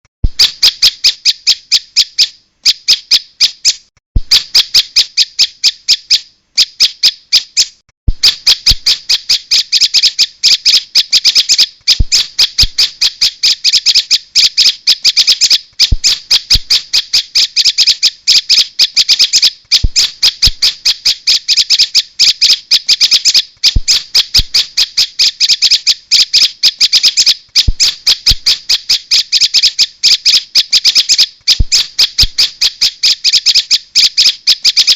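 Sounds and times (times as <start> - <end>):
bird chip call: 0.4 - 34.9.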